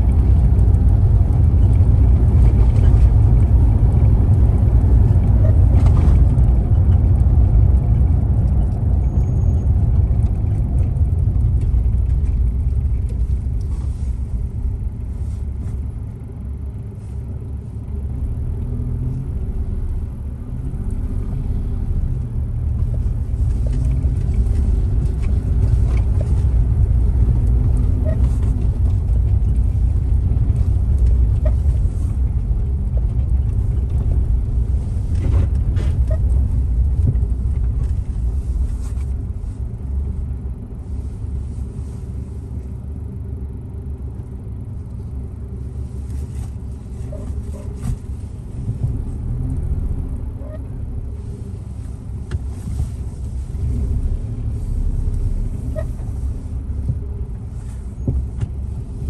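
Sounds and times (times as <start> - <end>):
car rumble on the move: 0.0 - 59.0.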